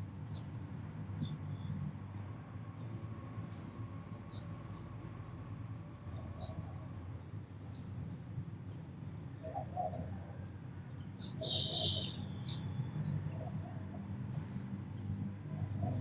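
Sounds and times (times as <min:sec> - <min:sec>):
sparrows chirping: 0:00.2 - 0:16.0.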